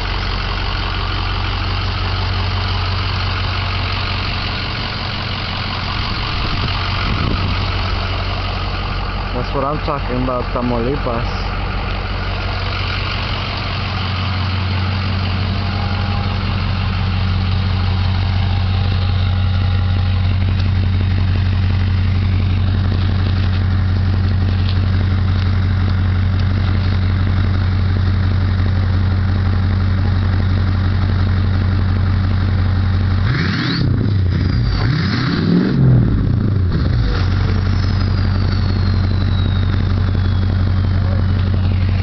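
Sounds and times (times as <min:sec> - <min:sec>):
truck engine idling: 0:00.0 - 0:34.9, 0:35.8 - 0:42.0.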